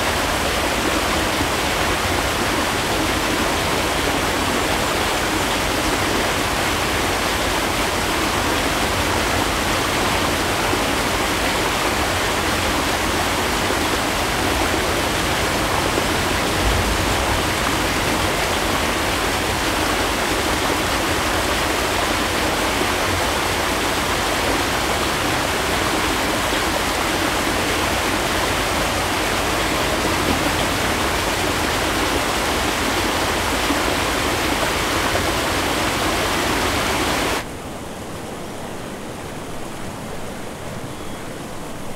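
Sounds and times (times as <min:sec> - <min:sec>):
small waterfall rushing: 0:00.0 - 0:41.9.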